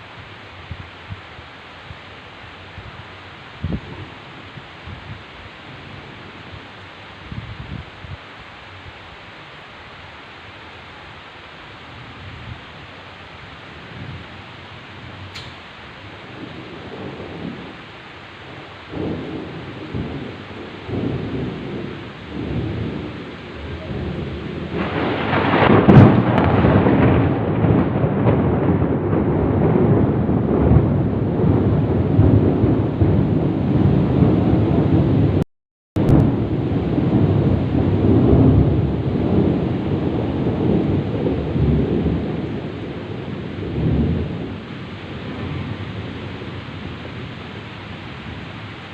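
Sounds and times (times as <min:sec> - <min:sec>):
heavy rain falling: 0:00.0 - 0:35.4, 0:36.0 - 0:48.9
rolling thunder rumble: 0:02.8 - 0:08.2, 0:13.7 - 0:35.4, 0:36.0 - 0:48.9.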